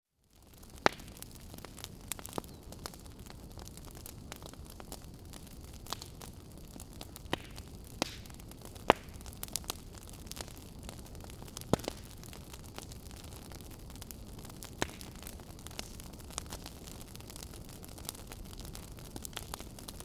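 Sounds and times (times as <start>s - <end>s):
wood fire crackling and popping: 0.3s - 20.0s.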